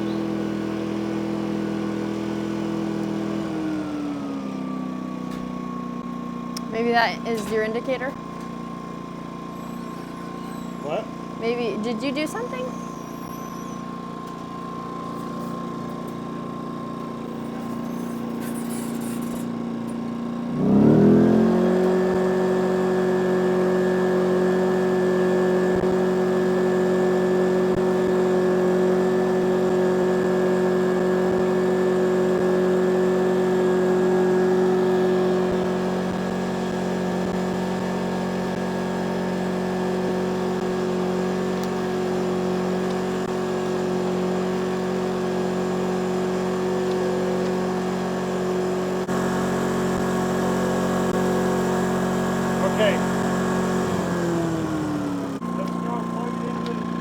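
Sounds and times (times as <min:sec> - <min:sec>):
generator running: 0:00.0 - 0:57.0.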